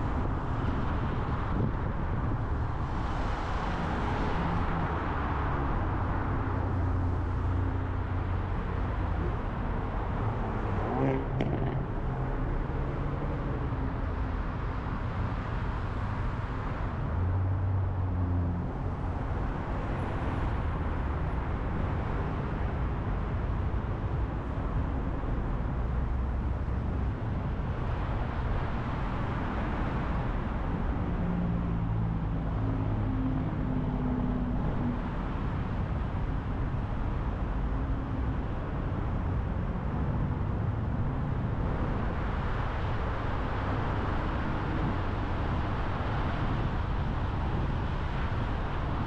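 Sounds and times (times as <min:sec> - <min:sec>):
tyre and road rumble: 0:00.0 - 0:49.0.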